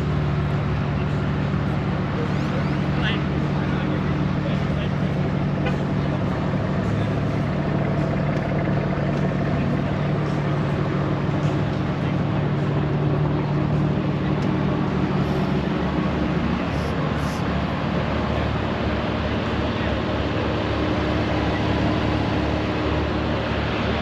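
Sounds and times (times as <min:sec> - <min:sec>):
car engine idling: 0:00.0 - 0:24.0
car meet background noise: 0:00.0 - 0:24.0.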